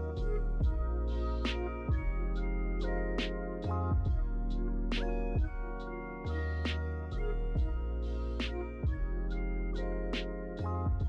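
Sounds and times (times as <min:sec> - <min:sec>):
keyboard music with deep bass: 0:00.0 - 0:11.0.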